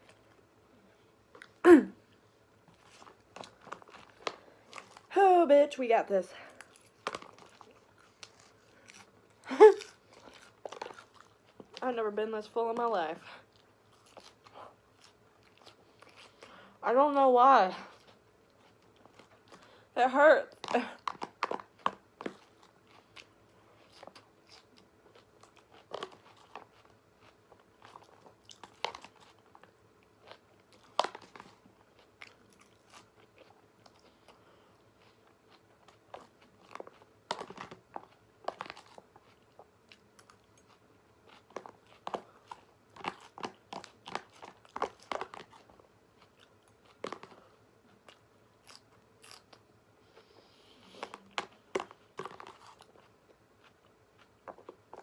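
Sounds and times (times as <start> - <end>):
person chewing and biting food: 2.7 - 5.1, 6.5 - 11.8, 13.4 - 16.8, 20.6 - 55.0.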